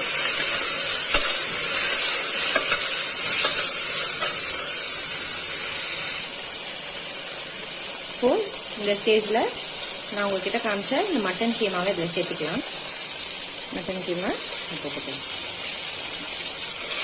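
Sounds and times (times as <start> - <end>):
masala sizzling in hot oil: 0.0 - 17.0.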